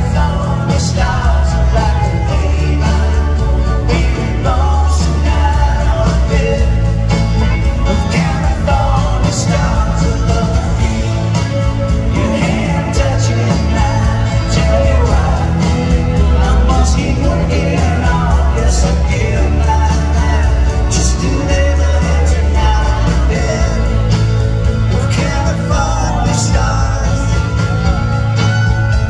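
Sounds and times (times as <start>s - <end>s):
live rock band playing: 0.0s - 29.0s
person singing: 0.0s - 29.0s.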